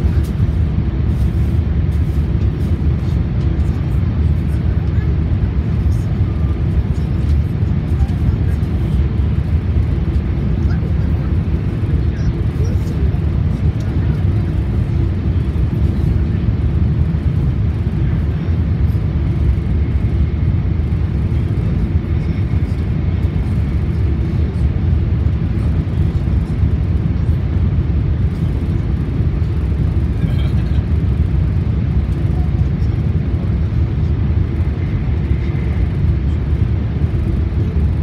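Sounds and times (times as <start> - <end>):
train cabin rumble at speed: 0.0 - 38.0.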